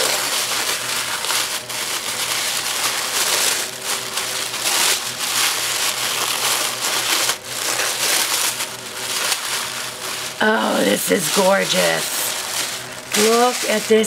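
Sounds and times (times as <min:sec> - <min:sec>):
tissue paper rustling: 0:00.0 - 0:14.0.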